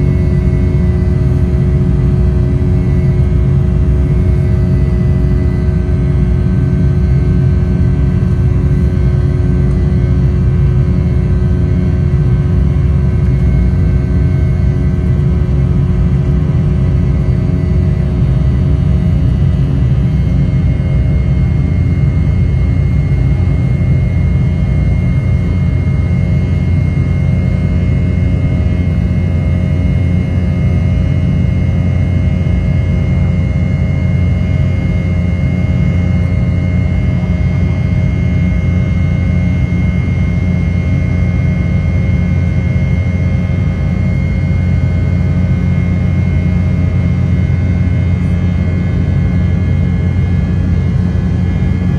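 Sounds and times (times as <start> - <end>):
jet engine cabin roar: 0.0 - 51.9
steady high whine: 0.0 - 51.9.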